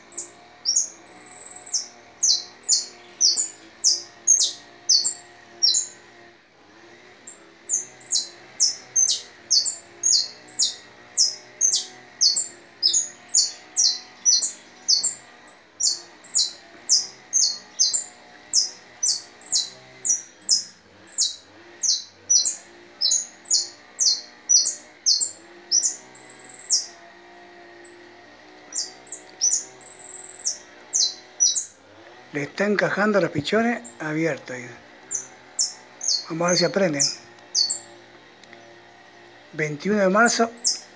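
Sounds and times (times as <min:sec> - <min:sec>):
songbird singing high notes: 0:00.1 - 0:06.0, 0:07.3 - 0:27.0, 0:28.7 - 0:31.8, 0:32.4 - 0:37.9, 0:39.6 - 0:40.9.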